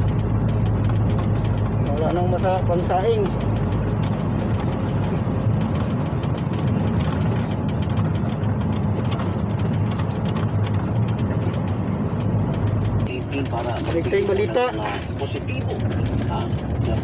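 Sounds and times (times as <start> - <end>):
diesel truck engine running: 0.0 - 17.0
road noise: 0.0 - 17.0.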